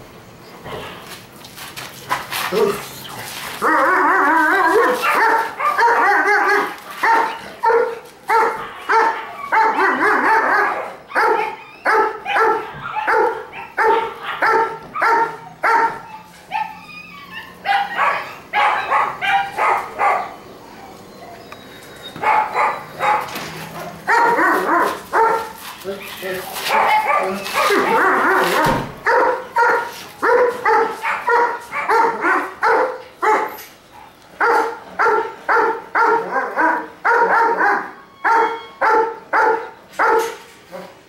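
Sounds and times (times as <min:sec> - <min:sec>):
puppy barking and yapping: 0:03.6 - 0:21.0, 0:22.1 - 0:40.9.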